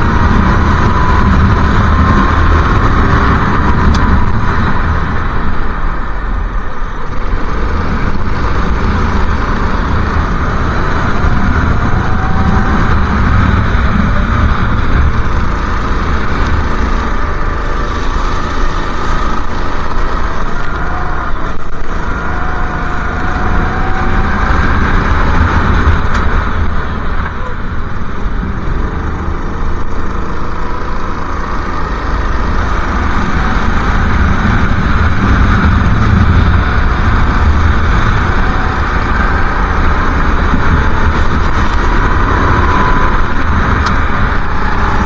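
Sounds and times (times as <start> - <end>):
go-kart engine racing: 0.0 - 45.0
steady rush of noise: 0.0 - 45.0.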